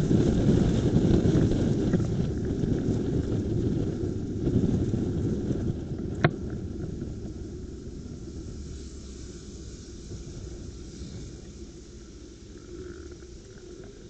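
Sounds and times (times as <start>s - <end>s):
low road rumble: 0.0s - 14.0s
wind buffeting microphone: 0.0s - 14.0s.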